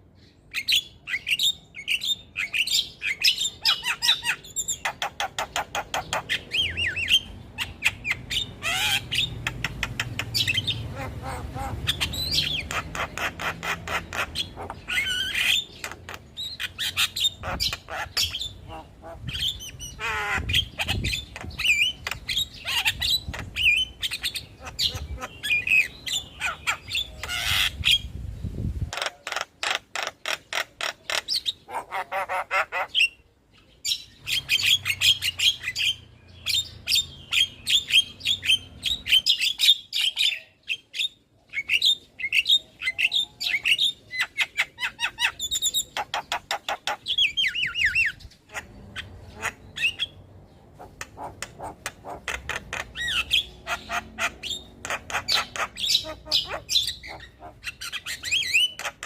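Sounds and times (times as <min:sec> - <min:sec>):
myna bird singing: 0:00.0 - 0:59.0.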